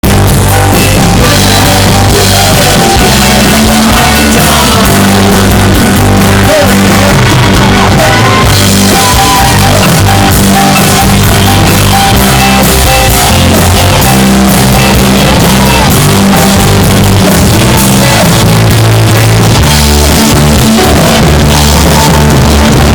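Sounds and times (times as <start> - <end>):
distorted live rock band: 0.0 - 22.9
person singing: 0.4 - 22.9.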